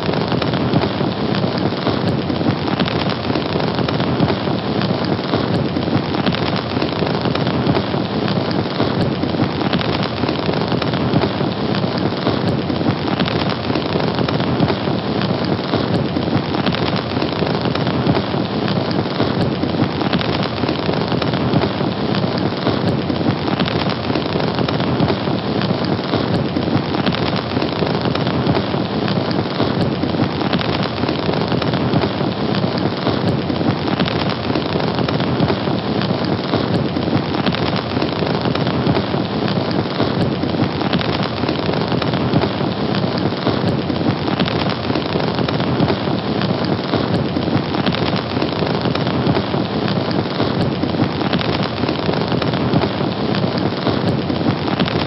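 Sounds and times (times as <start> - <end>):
fire burning with hiss: 0.0 - 55.0.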